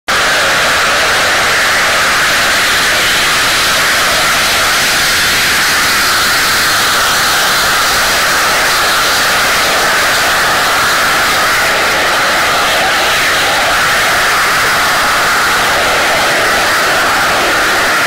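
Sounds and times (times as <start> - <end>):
jet engine roar: 0.1 - 18.0.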